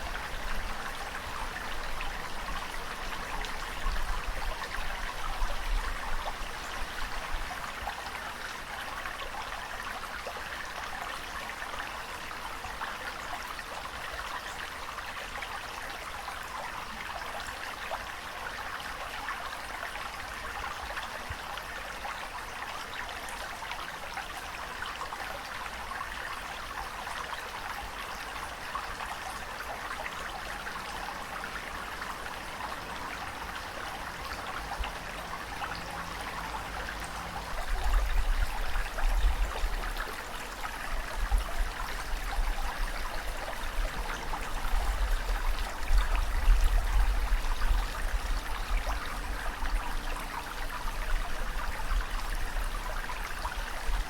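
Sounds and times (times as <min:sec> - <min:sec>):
water rushing and trickling: 0:00.0 - 0:54.0.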